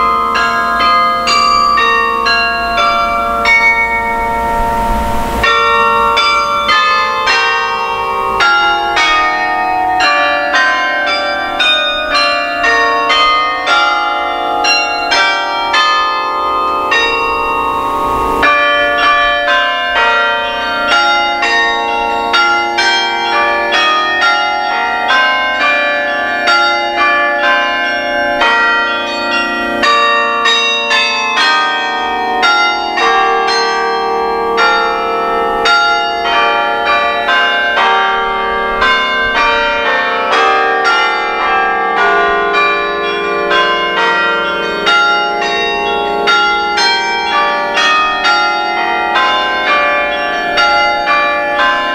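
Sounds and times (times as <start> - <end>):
carillon bells playing carol: 0.0 - 51.9
lower bell tones: 0.0 - 51.9.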